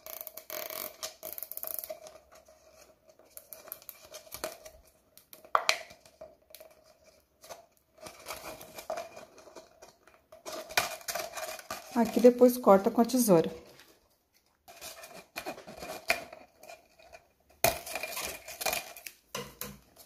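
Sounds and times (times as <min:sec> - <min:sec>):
thin plastic bottle crinkling: 0:00.0 - 0:20.0.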